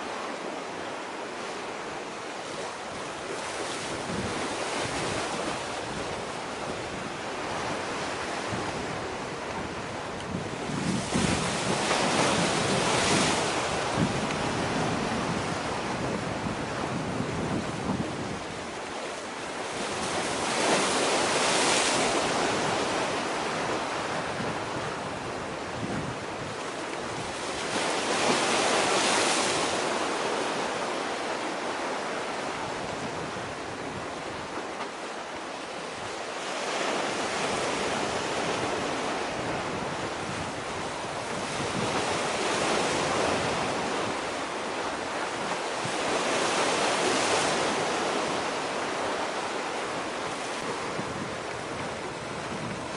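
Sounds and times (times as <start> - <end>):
sea waves washing on shore: 0.0 - 52.9
wind rumbling on microphone: 0.7 - 30.8, 31.7 - 52.9.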